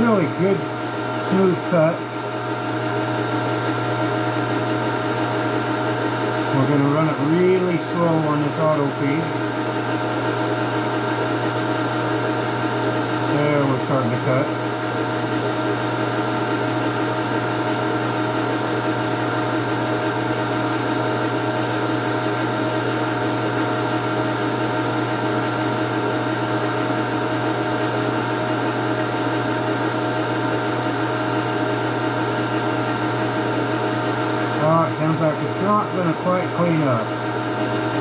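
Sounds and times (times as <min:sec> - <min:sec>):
metal lathe running: 0:00.0 - 0:38.0.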